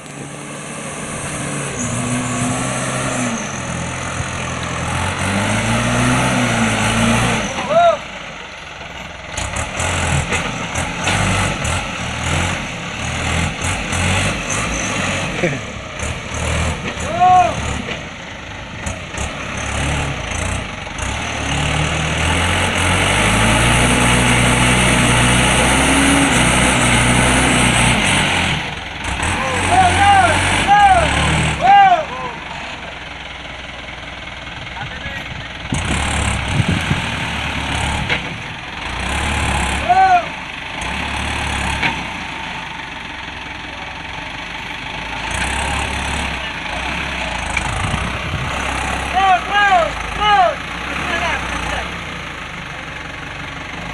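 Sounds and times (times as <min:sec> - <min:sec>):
truck engine under load: 0:00.0 - 0:53.9.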